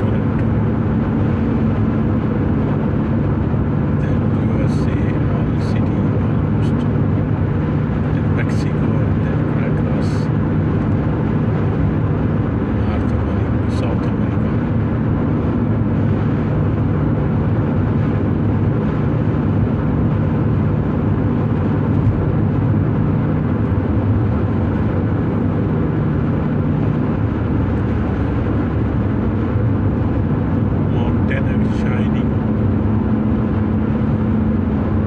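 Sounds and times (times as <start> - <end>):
car engine hum: 0.0 - 35.0.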